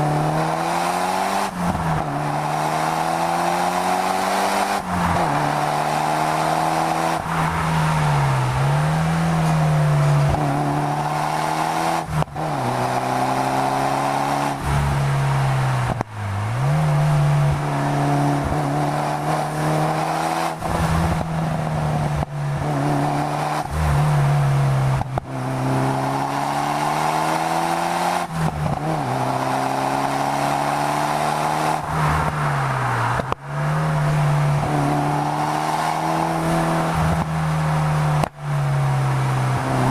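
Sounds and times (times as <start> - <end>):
car engine revving hard: 0.0 - 32.5, 33.9 - 39.9.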